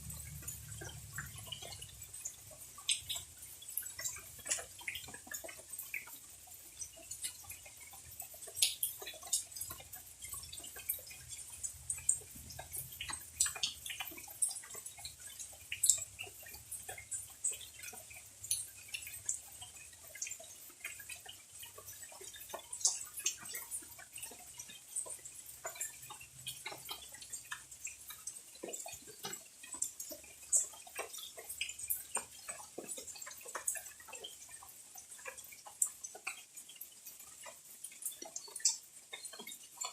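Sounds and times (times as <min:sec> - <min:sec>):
rainwater dripping: 0:00.0 - 0:39.9.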